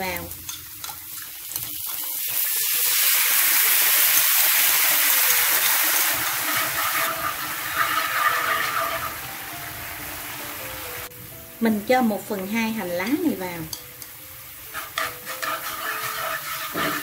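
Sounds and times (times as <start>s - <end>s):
sauce sizzling in hot oil: 0.0s - 17.0s.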